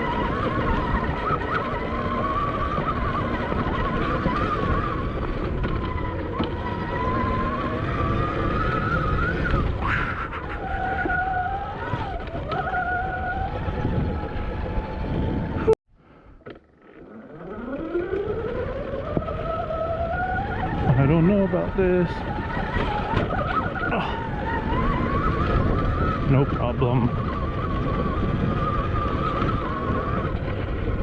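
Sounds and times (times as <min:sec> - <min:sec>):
wind noise on microphone: 0:00.0 - 0:15.8, 0:17.3 - 0:31.0
electric motorbike motor whining: 0:00.0 - 0:31.0
trail noise: 0:00.0 - 0:31.0.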